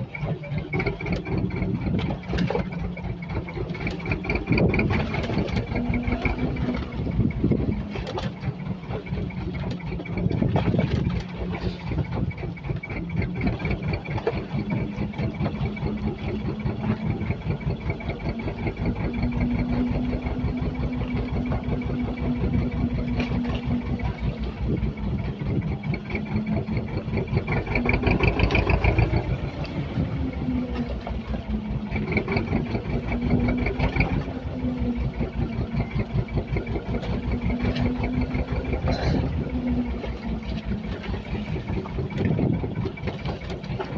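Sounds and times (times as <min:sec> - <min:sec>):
boat engine chugging: 0:00.0 - 0:43.9.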